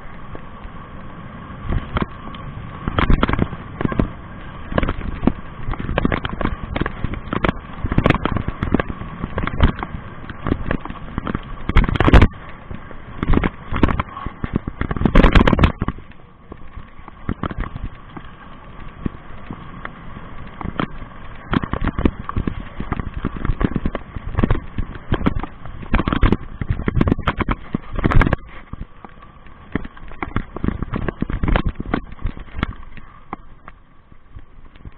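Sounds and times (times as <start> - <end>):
bike rattling over bumps: 0.0 - 34.9.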